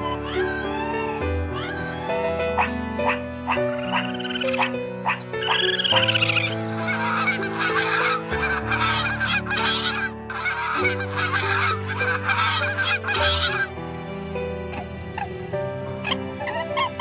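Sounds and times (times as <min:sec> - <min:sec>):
goose honking: 0:00.0 - 0:13.8, 0:14.7 - 0:17.0
soft music chords: 0:00.0 - 0:17.0.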